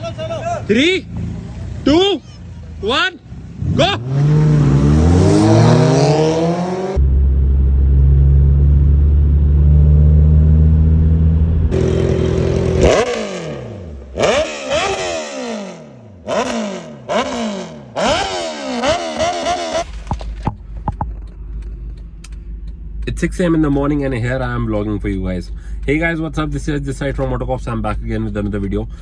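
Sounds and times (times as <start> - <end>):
car engines revving: 0.0 - 28.7.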